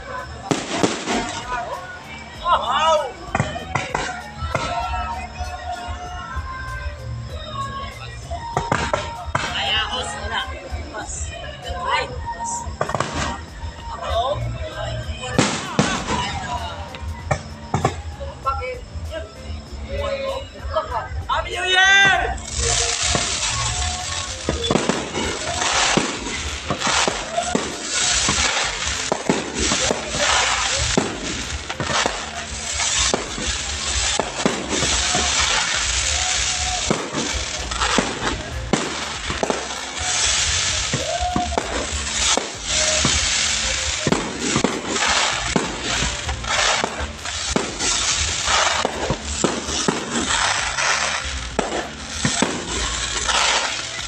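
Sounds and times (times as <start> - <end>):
fireworks bangs and crackles: 0.0 - 54.0
fireworks whistling: 0.0 - 54.0.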